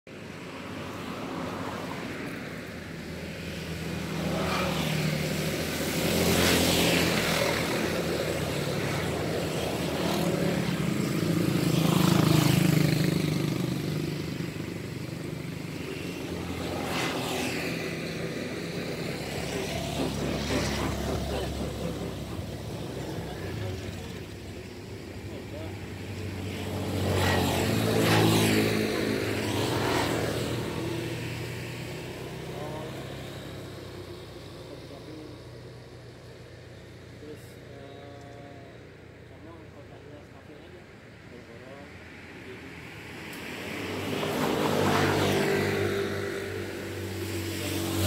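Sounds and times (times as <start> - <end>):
passing vehicle engines: 0.1 - 48.0.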